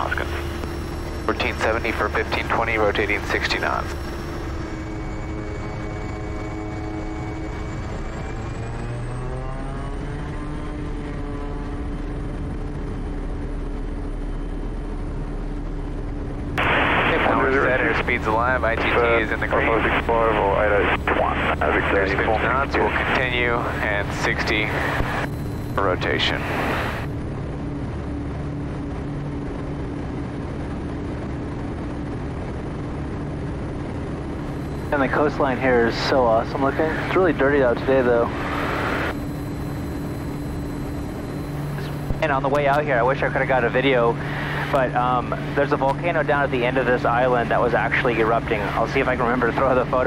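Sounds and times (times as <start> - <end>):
turboprop engine drone: 0.0 - 50.0.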